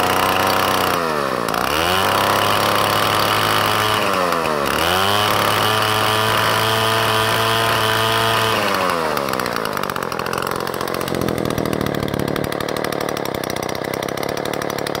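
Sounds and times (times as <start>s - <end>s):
two-stroke chainsaw revving and idling: 0.0s - 15.0s.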